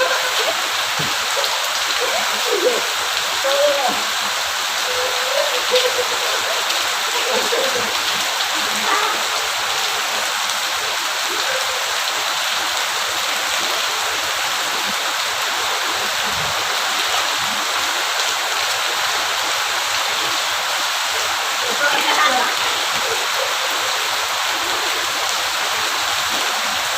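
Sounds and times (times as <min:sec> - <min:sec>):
rain falling: 0:00.0 - 0:26.9.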